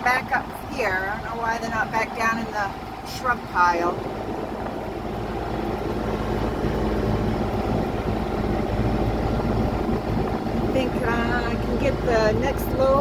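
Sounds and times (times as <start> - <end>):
utility vehicle engine droning: 0.0 - 13.0.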